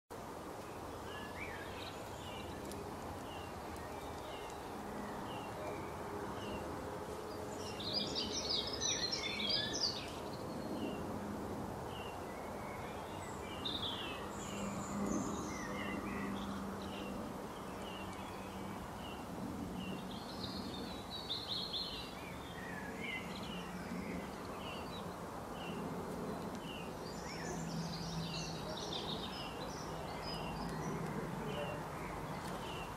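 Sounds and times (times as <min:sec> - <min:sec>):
bird chirping and twittering: 0:00.6 - 0:11.1, 0:11.9 - 0:32.9.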